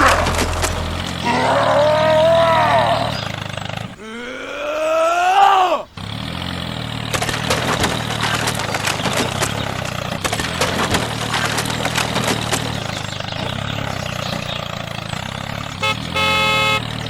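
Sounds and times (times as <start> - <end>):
small engine running: 0.0 - 4.0, 6.0 - 17.0.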